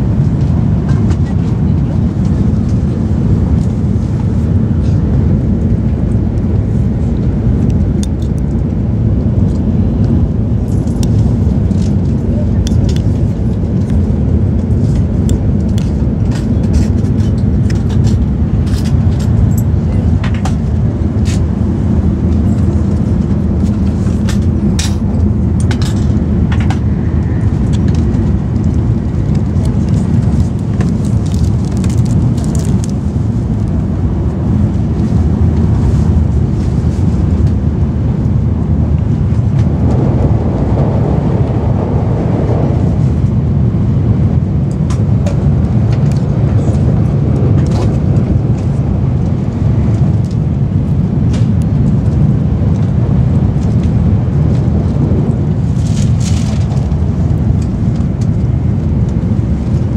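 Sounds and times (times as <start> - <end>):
train rumble inside cabin: 0.0 - 59.9.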